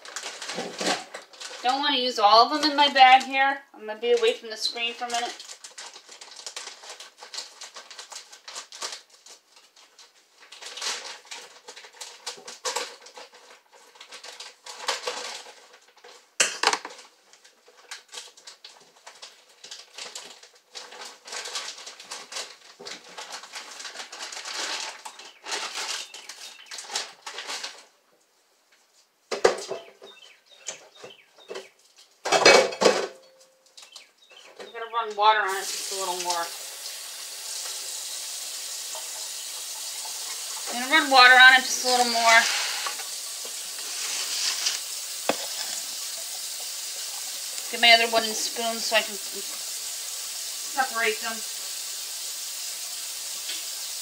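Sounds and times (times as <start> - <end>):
plastic bag rustling and crinkling: 0.0 - 33.1, 33.7 - 54.0.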